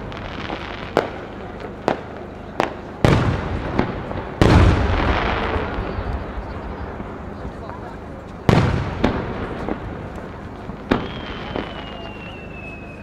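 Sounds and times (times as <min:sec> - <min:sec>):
firework booms: 0:00.0 - 0:07.2, 0:08.4 - 0:13.0
firework cracks: 0:00.0 - 0:07.8, 0:08.4 - 0:13.0.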